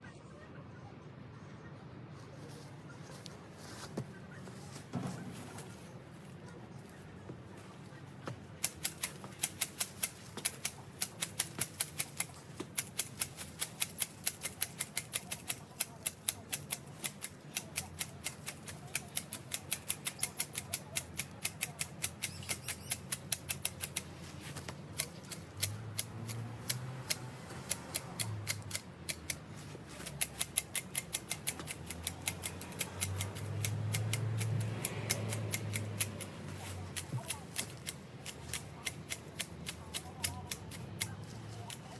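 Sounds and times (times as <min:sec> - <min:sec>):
hedge shears snipping: 0:07.6 - 0:41.9.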